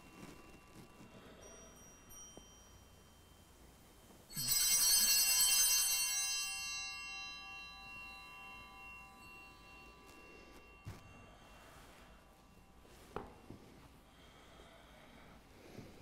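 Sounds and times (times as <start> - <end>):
altar bells ringing: 0.0 - 15.4.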